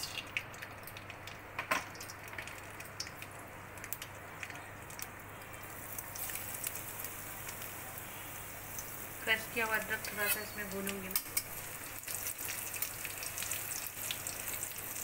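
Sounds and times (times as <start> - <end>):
mustard seeds popping in oil: 0.0 - 7.8, 8.7 - 15.0
faint oil sizzle: 0.0 - 15.0.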